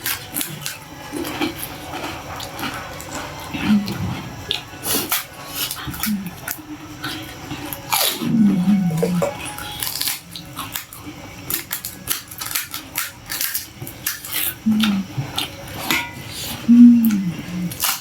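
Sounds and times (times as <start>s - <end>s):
crunching and chewing: 0.0s - 18.0s.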